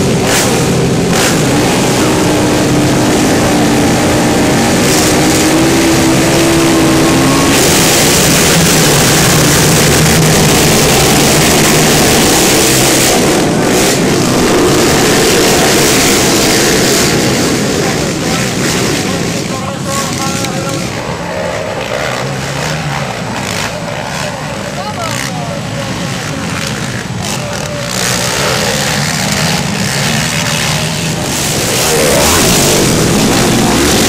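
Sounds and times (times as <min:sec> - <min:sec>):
quad engines revving: 0:00.0 - 0:34.0.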